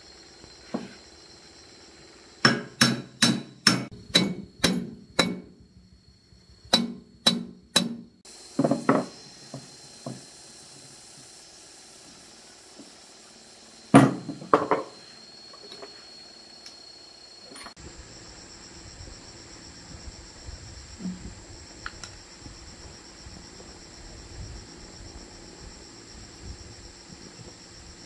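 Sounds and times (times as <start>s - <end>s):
high insect chirring: 0.0s - 28.0s.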